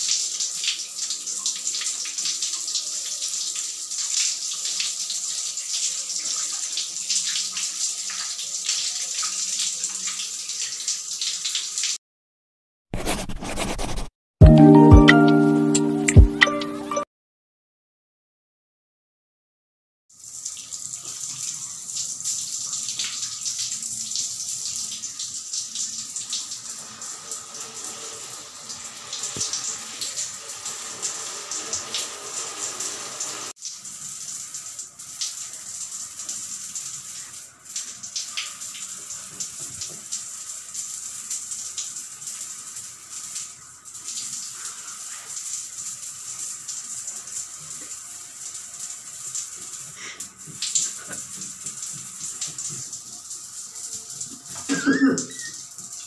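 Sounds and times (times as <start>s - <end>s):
water running and splashing: 0.0s - 12.0s, 20.1s - 56.0s.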